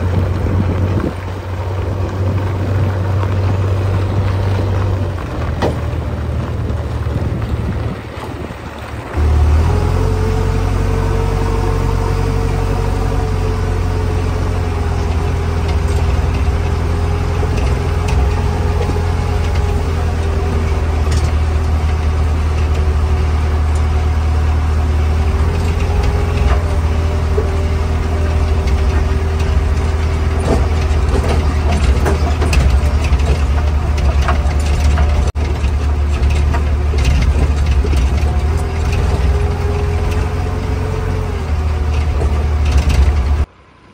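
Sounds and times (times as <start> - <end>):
diesel engine droning in cab: 0.0 - 43.9.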